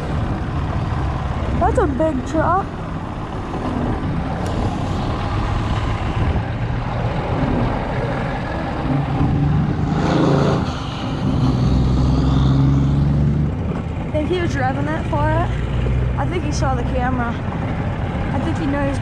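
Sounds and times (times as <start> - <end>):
truck diesel engine revving: 0.0 - 19.0.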